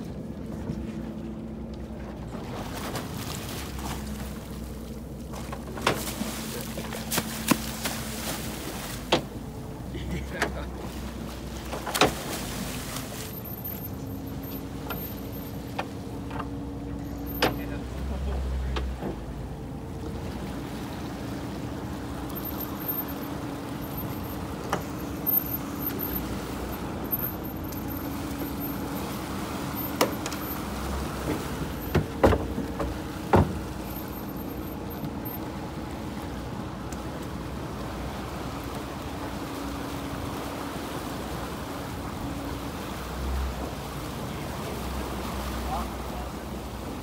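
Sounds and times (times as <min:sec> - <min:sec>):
boat engine running: 0:00.0 - 0:47.0
water rushing along hull: 0:00.0 - 0:47.0.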